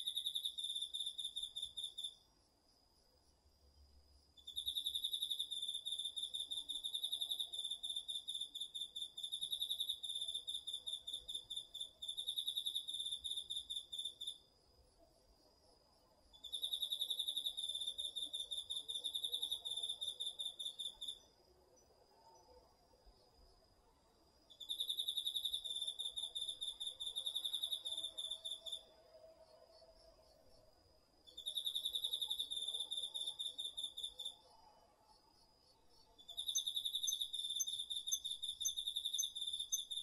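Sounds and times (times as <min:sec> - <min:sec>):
faint steady high insect tone: 0:00.0 - 0:40.0.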